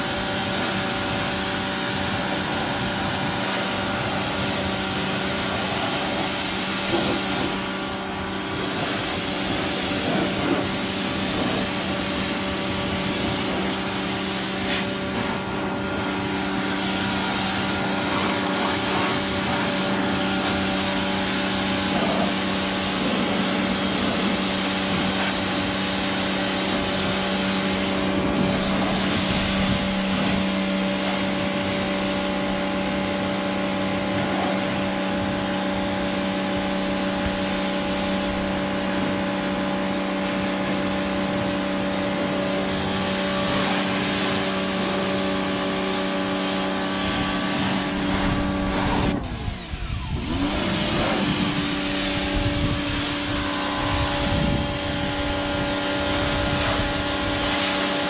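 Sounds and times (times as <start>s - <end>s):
high-pressure water jet hissing: 0.0s - 58.0s
pressure washer motor humming: 0.0s - 58.0s.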